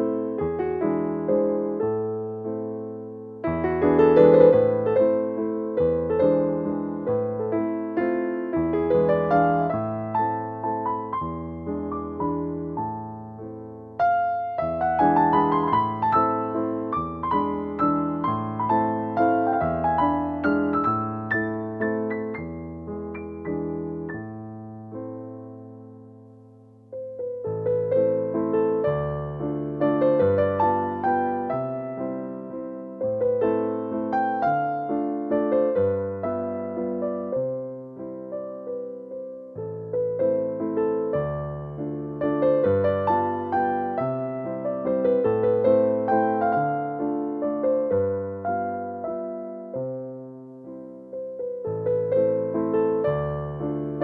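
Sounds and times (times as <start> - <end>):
gentle piano melody: 0.0 - 54.0.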